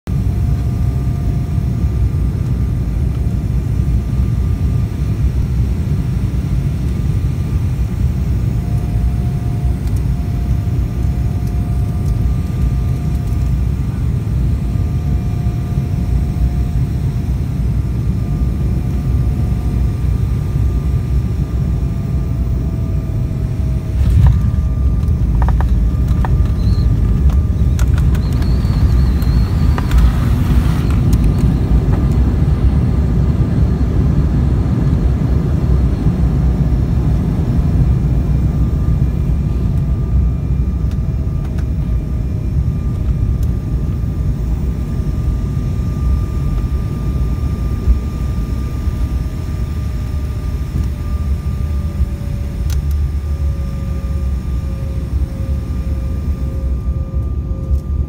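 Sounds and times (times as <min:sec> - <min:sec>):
airplane cabin engine rumble: 0:00.1 - 0:58.0
faint wavering whine: 0:00.1 - 0:58.0.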